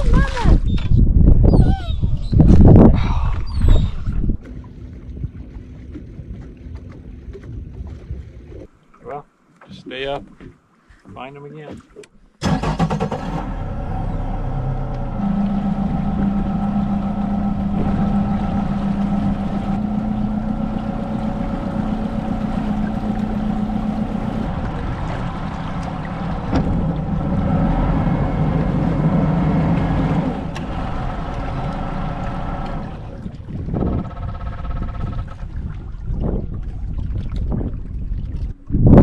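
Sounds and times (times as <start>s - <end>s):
boat motor humming: 3.3s - 9.6s, 12.9s - 38.8s.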